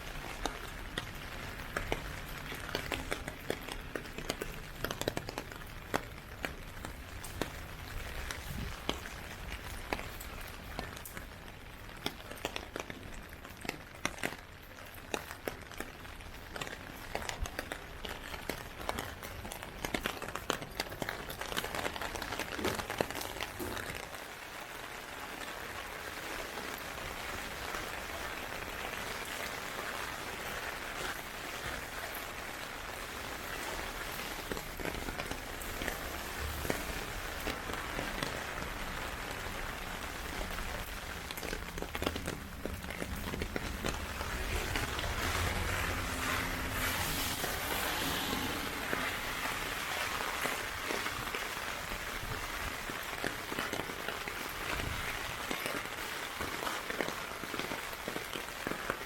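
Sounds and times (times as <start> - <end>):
heavy rain falling: 0.0 - 59.0
sharp raindrop hits: 0.0 - 59.0.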